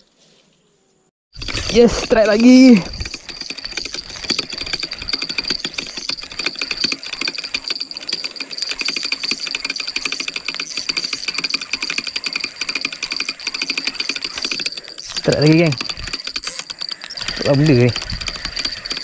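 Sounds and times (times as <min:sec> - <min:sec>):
fishing reel gears ticking: 0:01.4 - 0:19.0.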